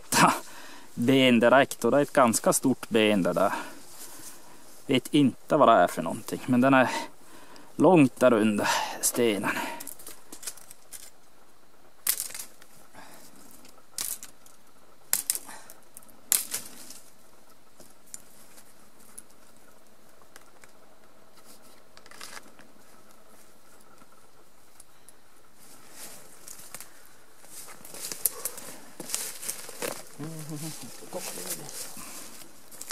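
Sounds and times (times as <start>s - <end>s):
dry twigs crackling and rustling: 0.0s - 8.3s, 9.5s - 32.9s
faint background noise: 0.0s - 32.9s.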